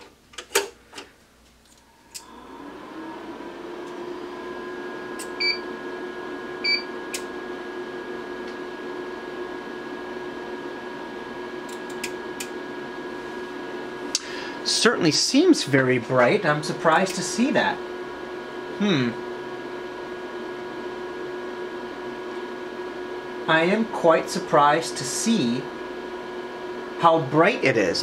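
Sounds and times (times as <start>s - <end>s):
electronic hum with whine: 0.0s - 28.0s.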